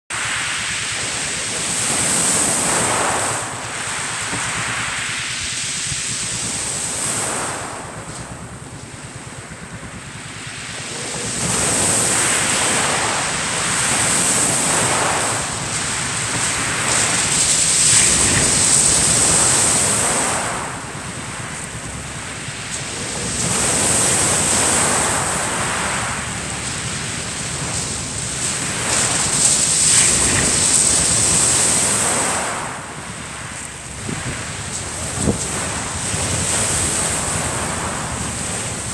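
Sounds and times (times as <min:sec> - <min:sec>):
wind buffeting microphone: 0:00.1 - 0:38.9
waves breaking on shingle: 0:00.2 - 0:38.9.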